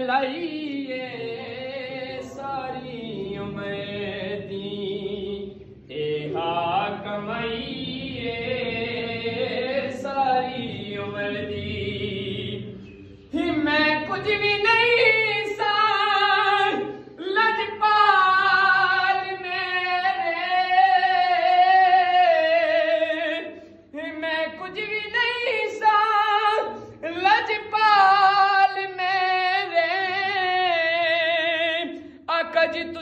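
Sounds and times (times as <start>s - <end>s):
man singing unaccompanied: 0.0s - 33.0s.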